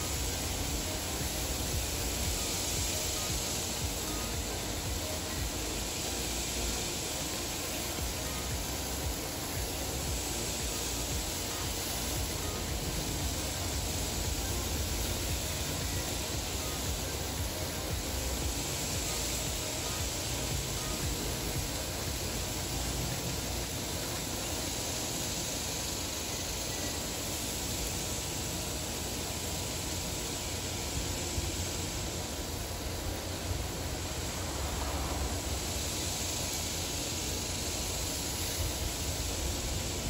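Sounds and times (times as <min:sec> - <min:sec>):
chicken sizzling on a grill: 0:00.0 - 0:40.0.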